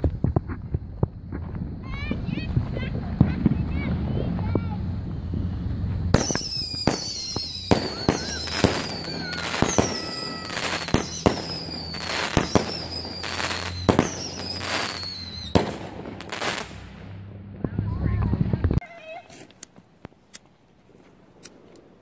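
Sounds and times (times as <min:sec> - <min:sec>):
firework shots: 0:00.0 - 0:18.8
crackling firework stars: 0:00.0 - 0:22.0.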